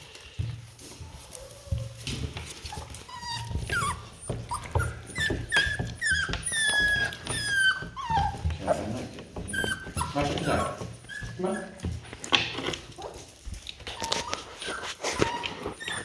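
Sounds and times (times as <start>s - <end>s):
puppies squealing and whimpering: 1.2s - 16.0s.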